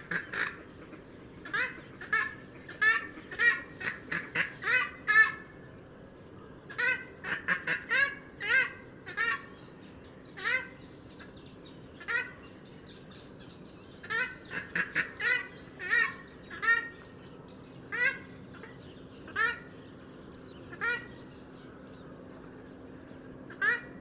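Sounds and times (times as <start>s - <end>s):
swamphens calling: 0.0s - 24.0s.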